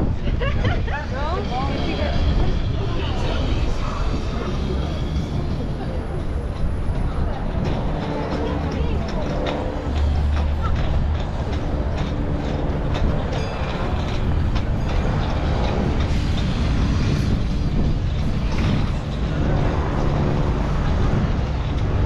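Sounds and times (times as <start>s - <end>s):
heavy traffic rumble: 0.0s - 22.0s.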